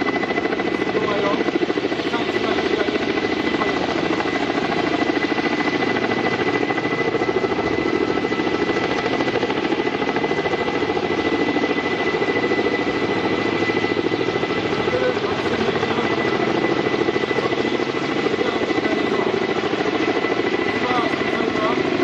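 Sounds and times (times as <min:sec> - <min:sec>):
helicopter rotor beating: 0:00.0 - 0:22.0
turbine whine: 0:00.0 - 0:22.0.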